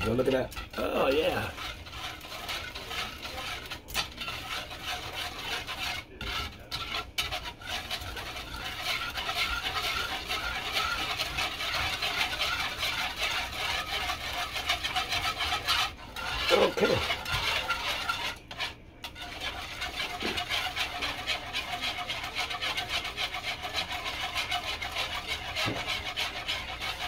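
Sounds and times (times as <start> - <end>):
whisk beating sauce in wooden bowl: 0.0 - 27.0.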